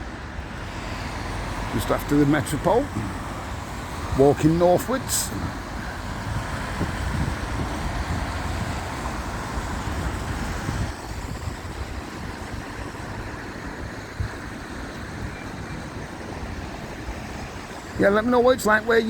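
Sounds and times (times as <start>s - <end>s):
road traffic: 0.0s - 19.0s
wind buffeting microphone: 0.0s - 19.0s.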